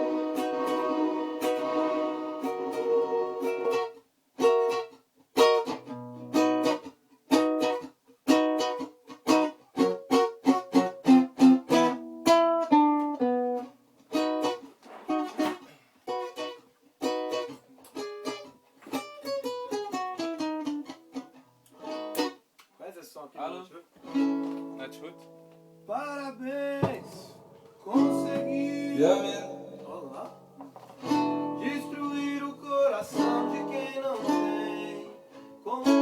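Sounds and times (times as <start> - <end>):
acoustic guitar with effect: 0.0 - 22.4, 24.0 - 36.0.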